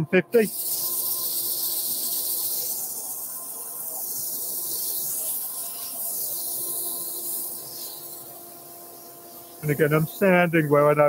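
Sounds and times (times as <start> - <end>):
faint machine hum: 0.0 - 11.0
sanding hiss on spinning wood: 0.0 - 11.0.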